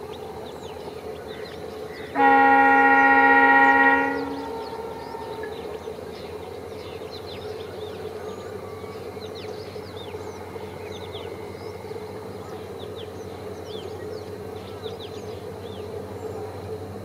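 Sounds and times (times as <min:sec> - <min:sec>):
distant diesel locomotive drone: 0:00.0 - 0:17.0.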